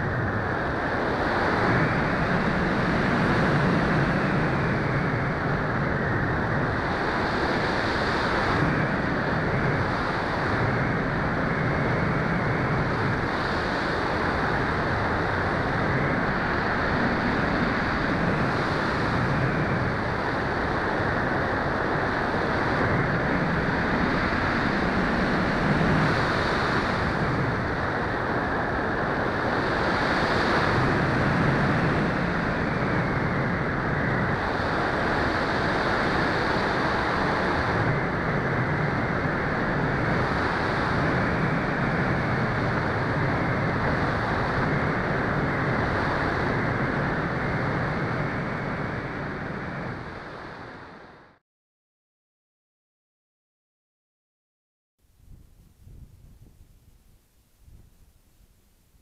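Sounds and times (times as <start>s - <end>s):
wind rushing over microphone: 0.0s - 51.4s, 55.1s - 59.0s.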